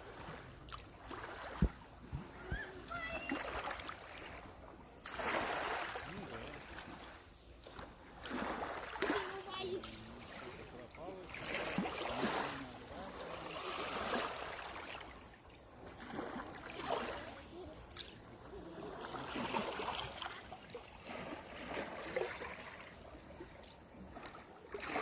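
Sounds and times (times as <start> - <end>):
small waves washing onto shore: 0.0 - 25.0.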